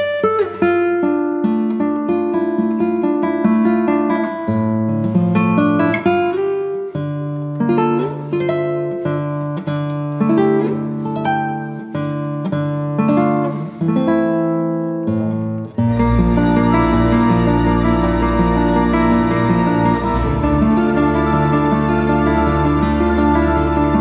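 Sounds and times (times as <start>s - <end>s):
acoustic guitar melody: 0.0s - 24.0s.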